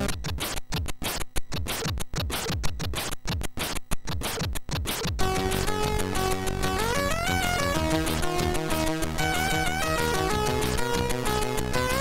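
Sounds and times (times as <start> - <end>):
chiptune demo music: 0.0 - 12.0
kick drum notes dropping in pitch: 0.0 - 12.0.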